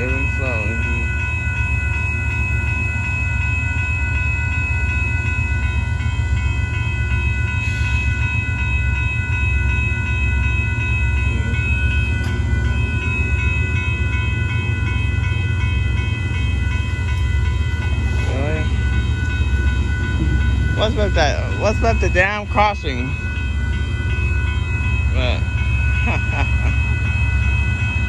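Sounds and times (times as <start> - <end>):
crossing warning bell ringing: 0.0 - 28.0
train rumbling: 0.0 - 28.0.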